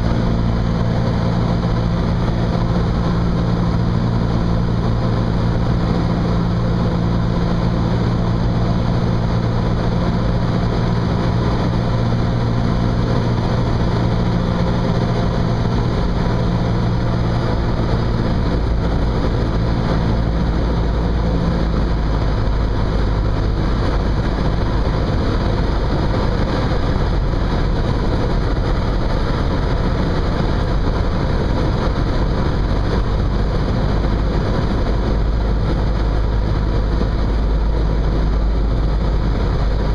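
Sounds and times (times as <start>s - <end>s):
deep low rumble: 0.0s - 39.9s
plane engine and propeller: 0.0s - 39.9s.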